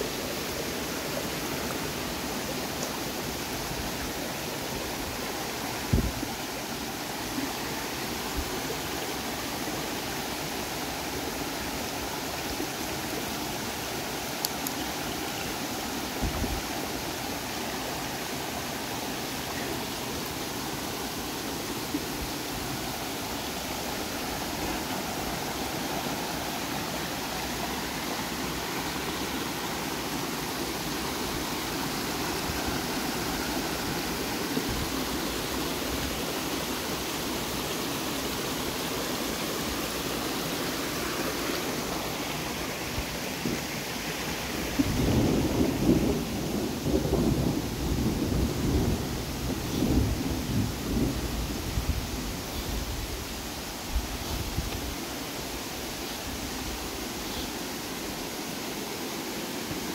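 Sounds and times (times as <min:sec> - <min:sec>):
creek rushing over boulders: 0:00.0 - 0:59.9.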